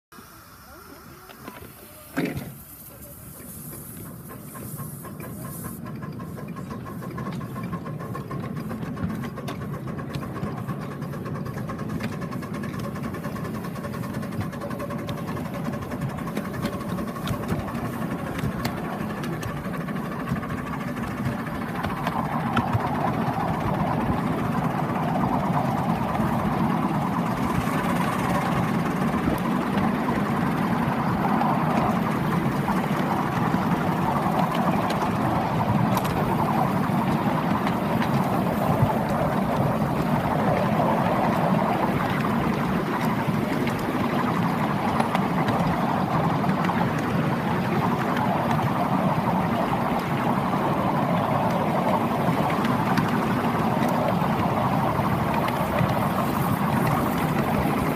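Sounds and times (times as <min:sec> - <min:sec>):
miniature train running on track: 0:00.1 - 0:57.9.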